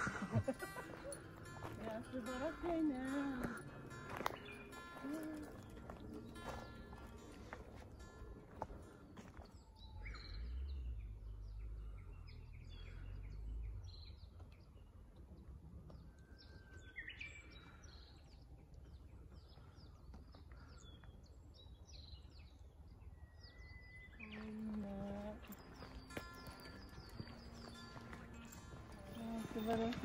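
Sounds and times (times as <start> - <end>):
birds chirping and whistling: 0.0 - 14.9, 16.0 - 30.0.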